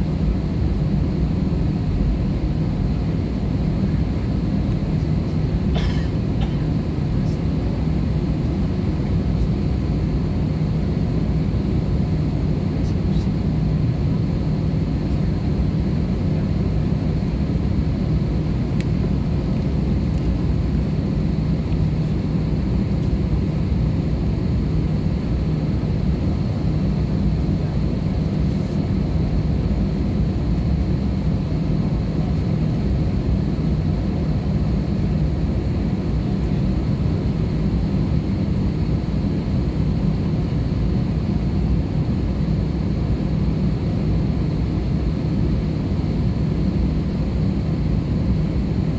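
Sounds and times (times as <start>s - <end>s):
aircraft cabin engine rumble: 0.0s - 48.9s.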